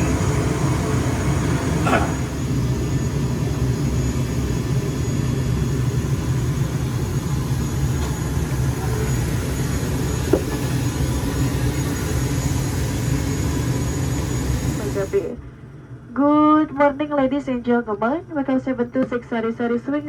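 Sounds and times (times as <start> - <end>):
turboprop engines droning: 0.0 - 20.0.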